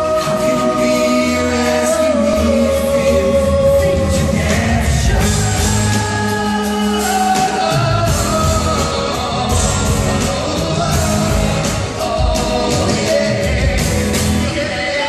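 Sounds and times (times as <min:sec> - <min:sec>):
men singing into microphones: 0:00.0 - 0:15.0.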